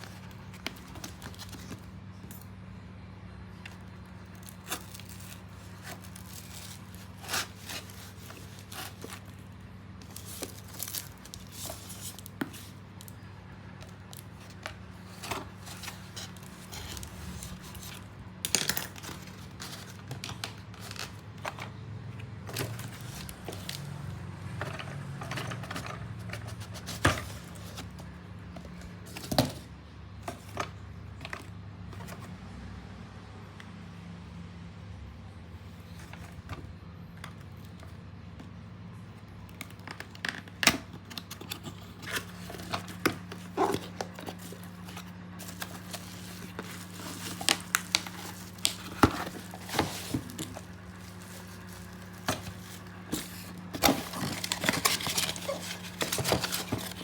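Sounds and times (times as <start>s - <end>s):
packaging rustling and scraping: 0.0s - 2.6s, 3.6s - 32.3s, 35.8s - 37.9s, 39.4s - 57.0s.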